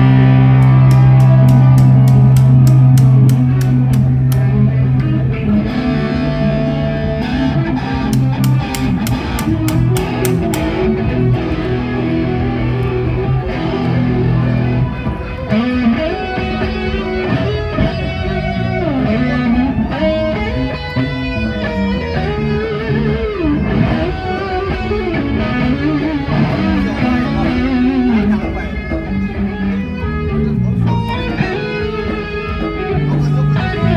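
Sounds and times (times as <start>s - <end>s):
bass notes: 0.0s - 33.9s
electric guitar: 0.0s - 33.9s.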